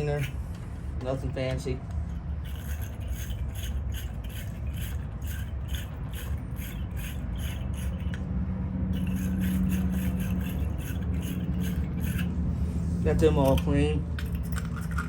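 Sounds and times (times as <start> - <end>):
wire brush scraping battery terminals: 0.0 - 8.2, 9.0 - 15.0
steady low hum: 0.0 - 15.0.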